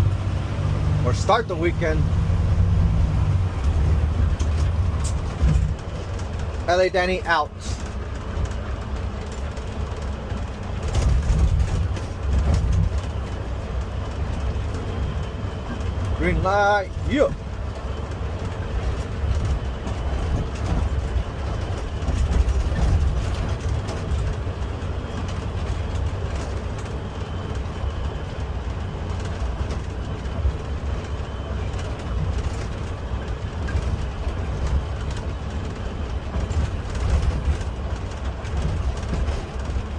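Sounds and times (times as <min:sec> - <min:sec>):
truck engine and road rumble: 0:00.0 - 0:39.9
rattling and clatter: 0:01.1 - 0:39.9.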